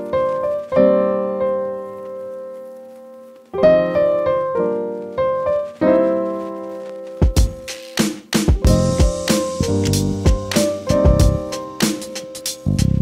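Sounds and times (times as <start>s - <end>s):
piano chords ringing: 0.0s - 7.8s, 8.5s - 13.0s.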